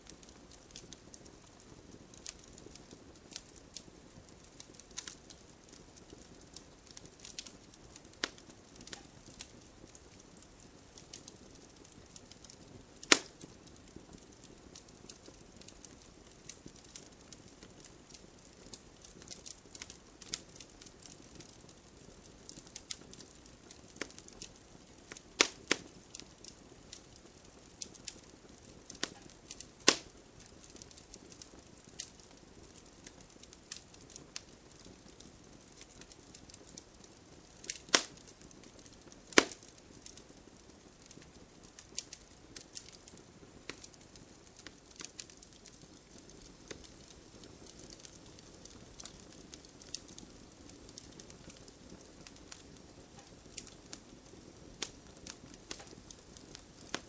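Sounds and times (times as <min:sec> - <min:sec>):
faint rain hiss: 0:00.0 - 0:57.0
wood fire crackling and popping: 0:00.0 - 0:57.0.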